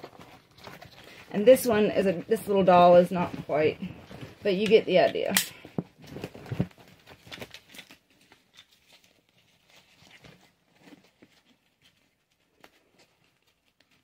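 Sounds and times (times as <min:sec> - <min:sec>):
nylon straps rustling: 0:00.0 - 0:14.0.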